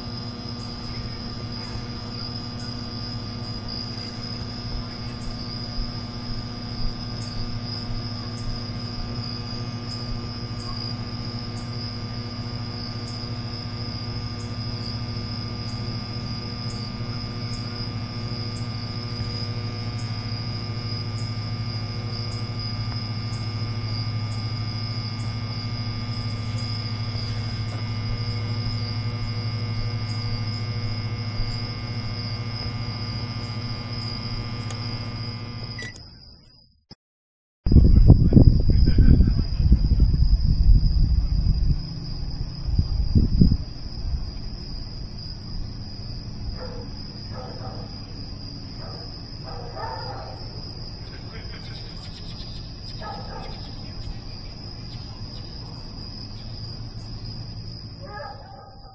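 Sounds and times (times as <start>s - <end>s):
microwave oven humming: 0.0s - 36.9s, 37.7s - 58.9s.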